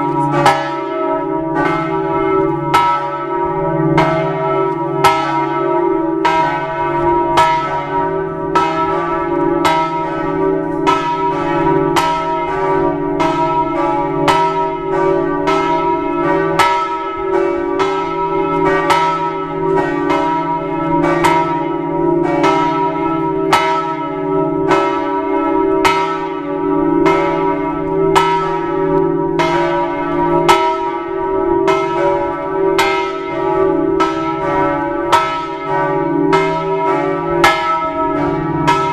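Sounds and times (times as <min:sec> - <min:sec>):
church bells tolling: 0:00.0 - 0:38.9.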